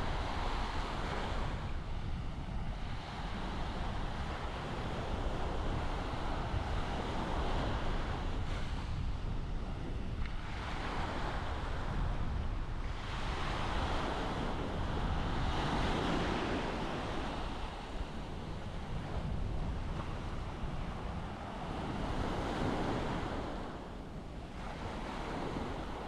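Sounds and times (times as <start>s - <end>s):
surf washing up beach: 0.0s - 26.0s
wind rumbling on microphone: 0.0s - 26.0s.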